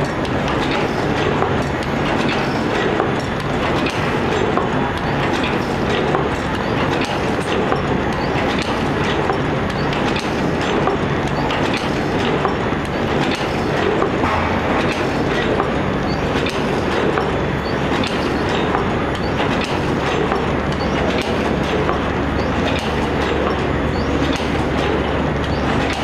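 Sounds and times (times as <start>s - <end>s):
machine clattering with quick clicks: 0.0s - 26.0s.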